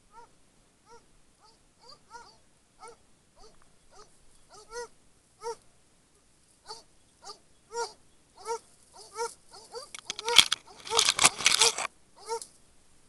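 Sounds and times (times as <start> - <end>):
dogs yelping barks: 0.9 - 5.6, 6.7 - 12.4.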